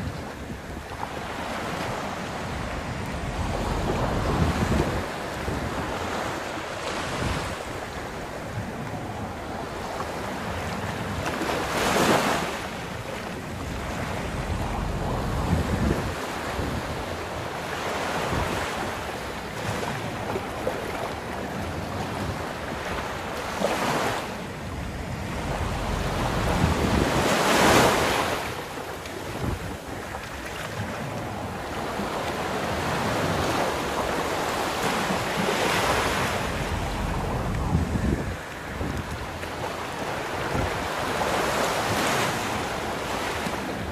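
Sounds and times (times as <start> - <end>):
waves breaking on beach: 0.0 - 43.9
wind buffeting microphone: 0.0 - 43.9.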